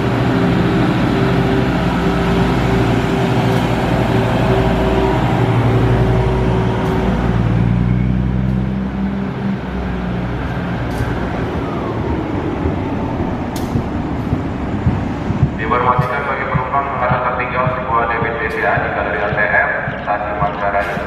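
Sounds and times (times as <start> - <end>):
train engine rumbling: 0.0 - 21.0.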